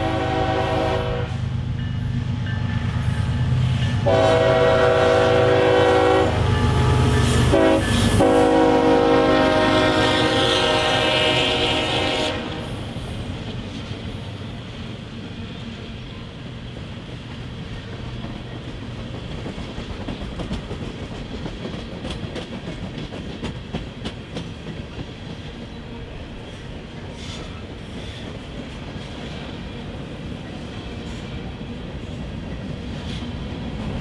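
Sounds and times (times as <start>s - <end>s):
freight train clattering past: 0.0s - 34.0s.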